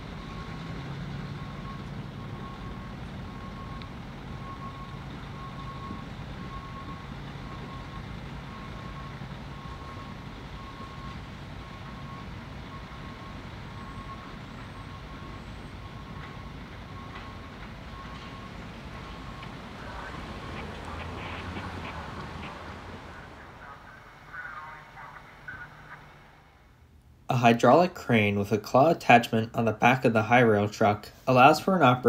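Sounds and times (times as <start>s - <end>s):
truck backup alarm beeping: 0.0s - 27.0s
diesel engine running low: 0.0s - 32.0s.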